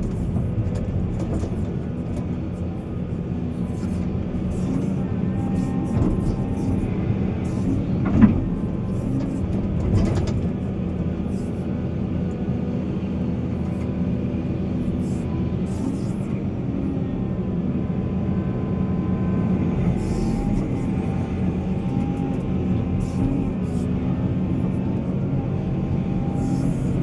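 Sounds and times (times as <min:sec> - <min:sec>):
diesel machinery engine running: 0:00.0 - 0:27.0.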